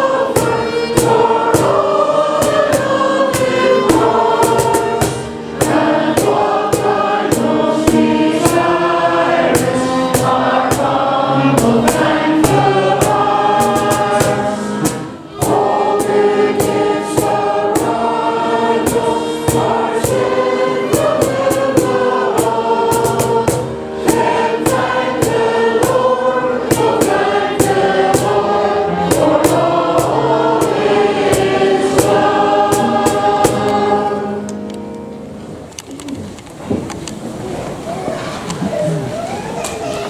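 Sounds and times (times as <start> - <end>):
choir singing sustained chords: 0.0 - 35.7.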